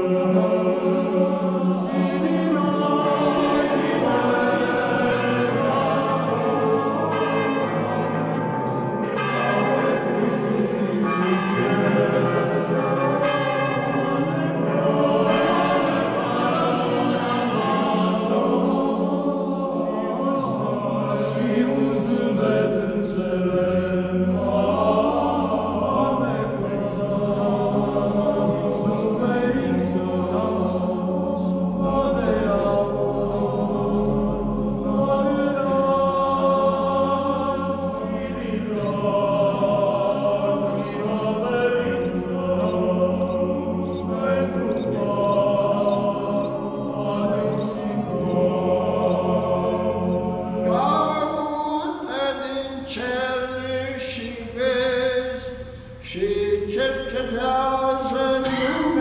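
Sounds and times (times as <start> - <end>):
choir chanting: 0.0 - 59.0.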